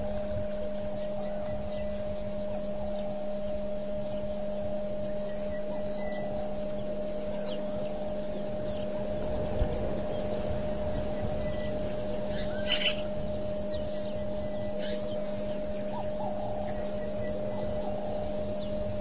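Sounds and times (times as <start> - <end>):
birds chirping: 0.0 - 19.0
electrical hum: 0.0 - 19.0
microphone hiss: 0.0 - 19.0.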